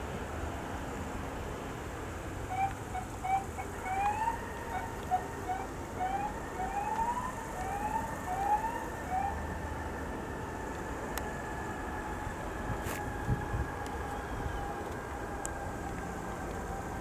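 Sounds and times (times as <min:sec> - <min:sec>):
distant jet engine whine: 0:00.0 - 0:17.0.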